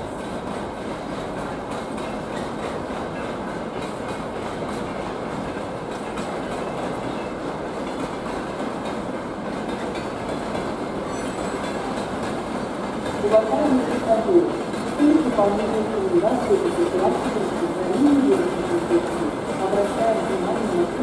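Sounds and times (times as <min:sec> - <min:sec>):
train wheels rumbling on rails: 0:00.0 - 0:21.0
wheels clicking over rail joints: 0:00.2 - 0:21.0.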